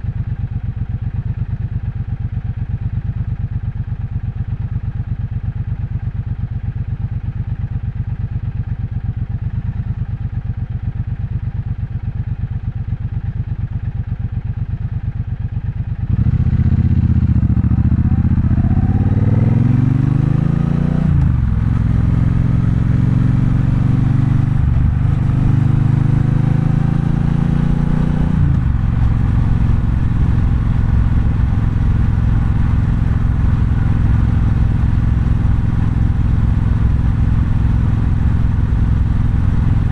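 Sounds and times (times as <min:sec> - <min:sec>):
motorcycle engine idling and pulling away: 0:00.0 - 0:39.9.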